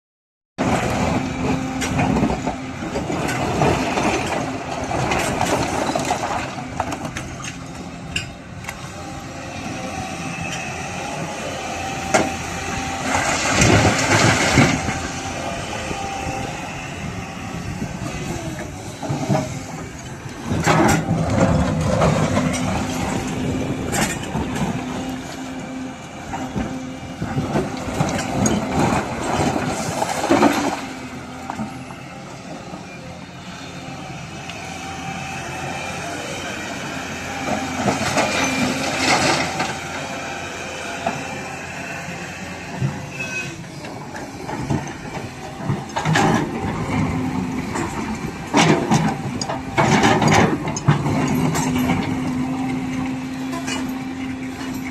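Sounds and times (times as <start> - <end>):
excavator diesel engine running: 0.6 - 54.9.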